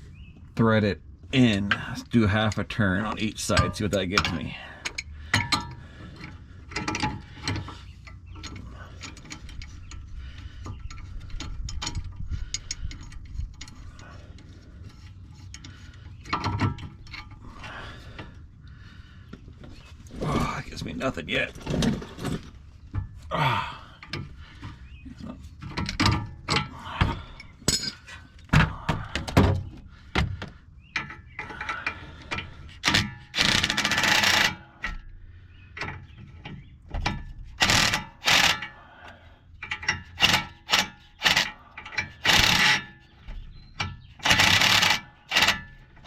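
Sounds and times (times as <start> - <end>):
pipe wrench clanking on metal: 1.4 - 17.6, 24.0 - 35.1, 35.7 - 38.8, 39.6 - 46.0.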